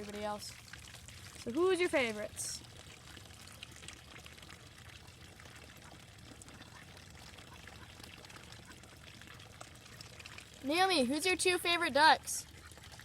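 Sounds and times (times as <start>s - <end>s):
faint running water: 0.0s - 13.0s
small ticks and splashes: 0.0s - 13.0s.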